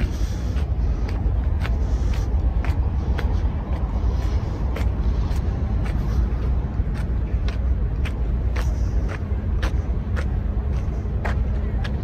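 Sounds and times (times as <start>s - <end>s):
footsteps on pavement: 0.0s - 12.0s
low rumble with hum: 0.0s - 12.0s.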